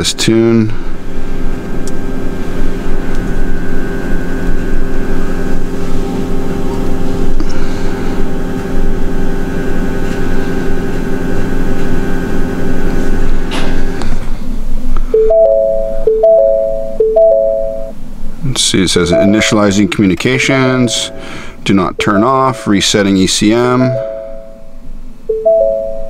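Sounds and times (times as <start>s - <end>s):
droning hum of held tones: 0.0s - 26.0s.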